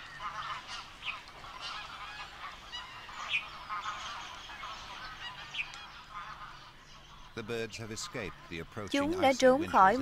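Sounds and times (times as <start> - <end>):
flock of waterbirds calling: 0.0 - 10.0.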